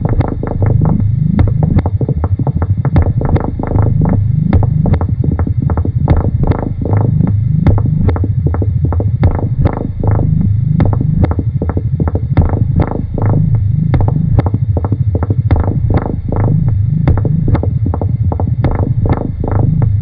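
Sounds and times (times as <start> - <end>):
low throbbing electronic drone: 0.0 - 20.0.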